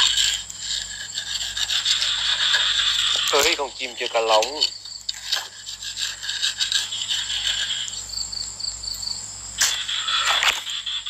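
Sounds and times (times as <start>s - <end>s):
metal tool scraping dry earth: 0.0s - 8.2s, 9.6s - 11.0s
high insect drone: 0.0s - 11.0s.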